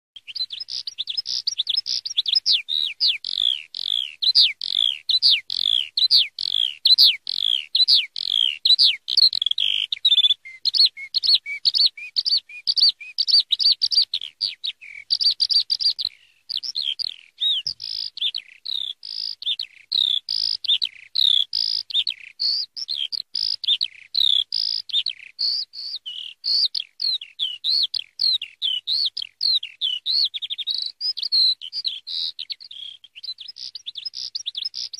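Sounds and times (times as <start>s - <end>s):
skylark singing: 0.2s - 34.9s.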